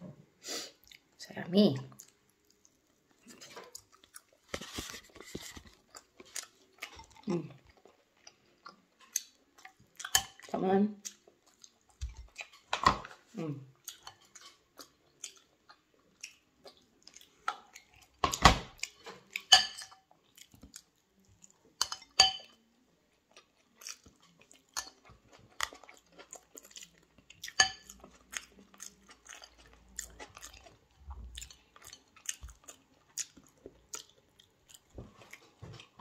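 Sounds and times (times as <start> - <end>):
person chewing: 0.7 - 1.1, 1.8 - 36.0.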